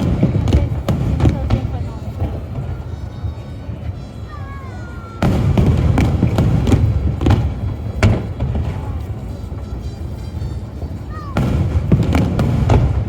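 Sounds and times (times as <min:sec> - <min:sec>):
fireworks booms and bangs: 0:00.0 - 0:03.8, 0:05.0 - 0:09.9, 0:11.1 - 0:13.0.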